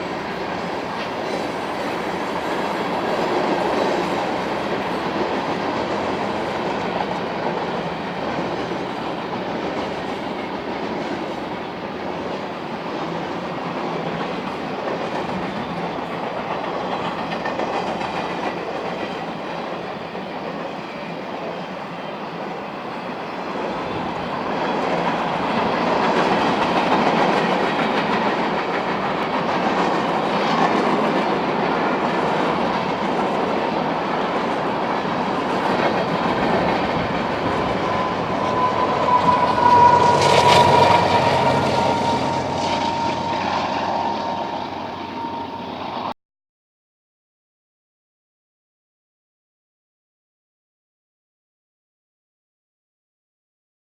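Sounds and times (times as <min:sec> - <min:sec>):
freight train wheels rumbling: 0:00.0 - 0:46.1.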